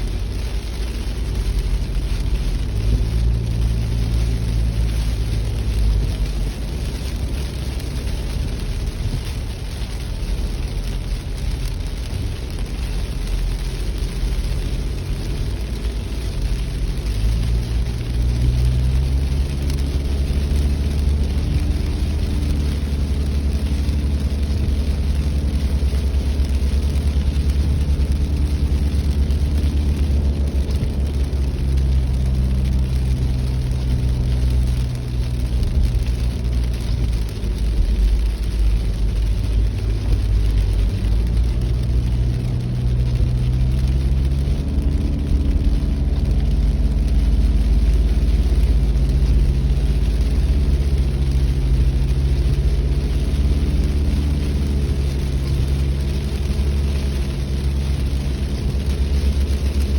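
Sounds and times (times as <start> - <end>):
car engine hum: 0.0 - 59.9
low road rumble: 0.0 - 59.9.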